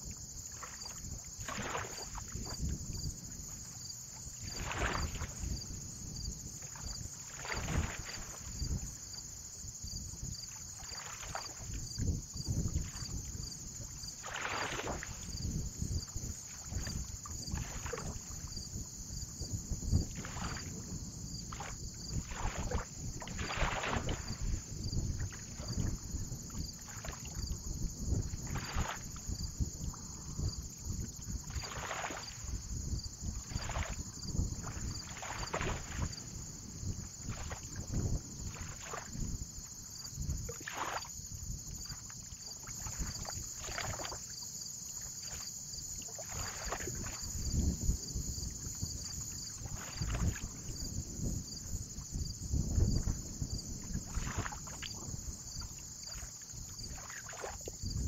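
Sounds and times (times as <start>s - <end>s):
water lapping and splashing: 0.0s - 58.0s
wind rumble on microphone: 0.0s - 58.0s.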